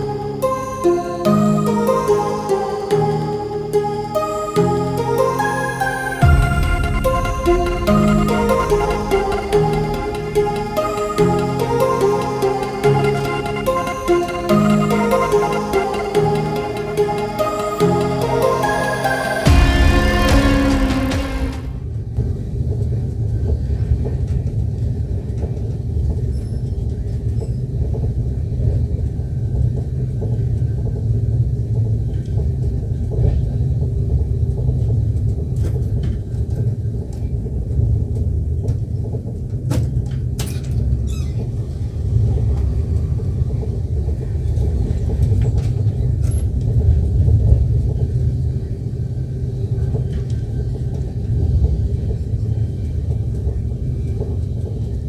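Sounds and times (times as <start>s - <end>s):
train rumbling on track: 6.2s - 55.0s.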